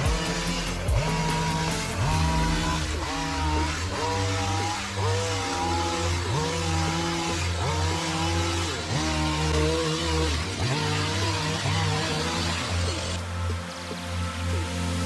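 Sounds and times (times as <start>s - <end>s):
distorted lead synth with sliding notes: 0.0s - 15.0s
steady bass line: 0.0s - 15.0s.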